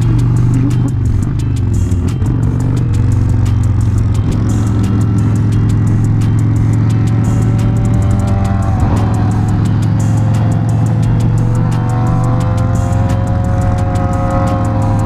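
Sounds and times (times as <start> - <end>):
motorcycle engine cruising: 0.0 - 15.0
music with regular beat: 0.0 - 15.0.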